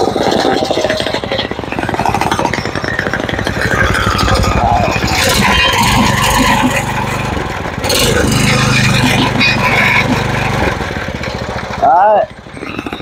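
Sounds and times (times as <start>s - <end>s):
concrete vibrator buzzing rattle: 0.0s - 13.0s.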